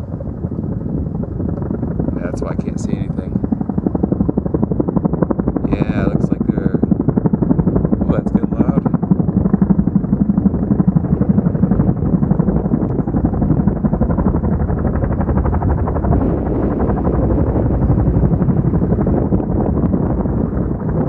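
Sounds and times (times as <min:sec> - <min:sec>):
helicopter rotor chopping: 0:00.0 - 0:21.0.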